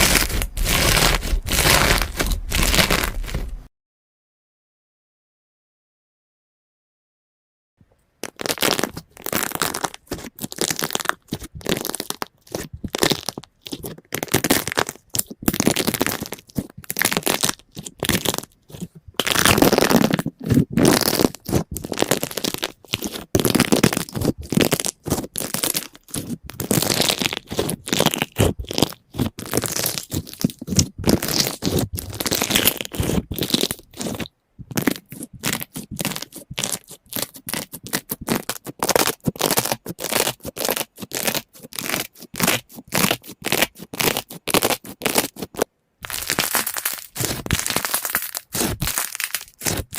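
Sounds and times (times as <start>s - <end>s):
slime crackling and popping: 0.0s - 3.7s, 8.2s - 49.9s.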